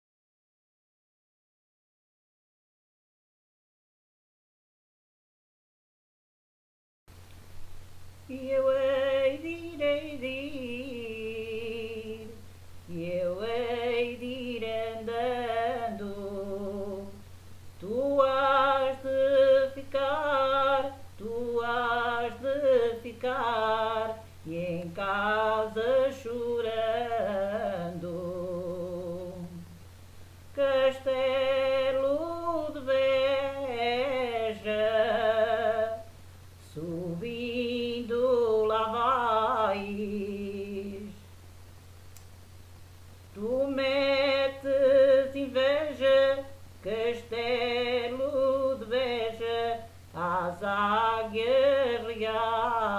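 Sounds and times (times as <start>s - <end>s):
steady low hum: 7.1s - 52.9s
woman singing unaccompanied: 8.2s - 41.4s, 43.3s - 52.9s.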